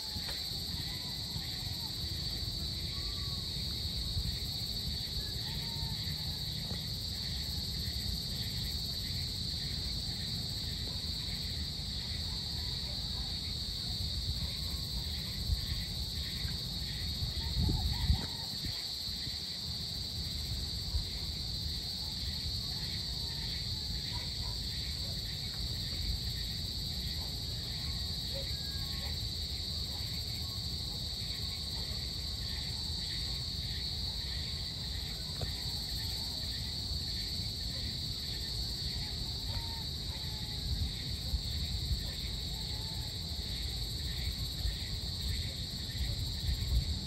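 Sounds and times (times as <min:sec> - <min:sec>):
insect chorus drone: 0:00.0 - 0:47.0.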